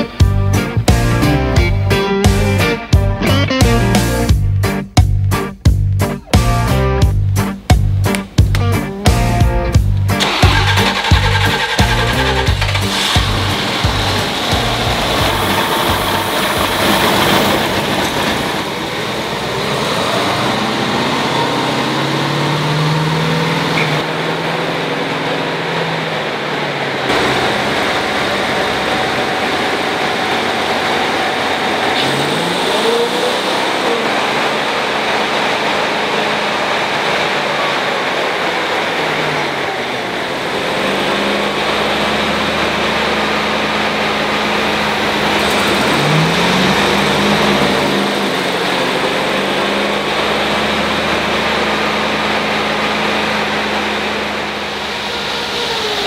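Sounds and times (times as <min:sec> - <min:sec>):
engine revving on a dyno: 0:10.2 - 0:56.0.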